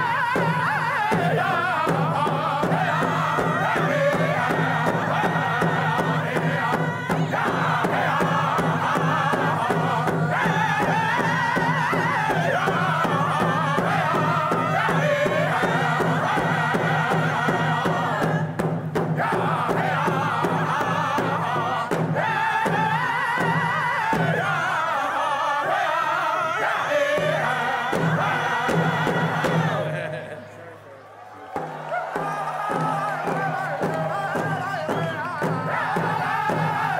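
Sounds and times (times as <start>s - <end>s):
frame drums beating: 0.0s - 24.8s, 26.6s - 30.3s, 31.4s - 36.9s
group chanting: 0.0s - 36.9s.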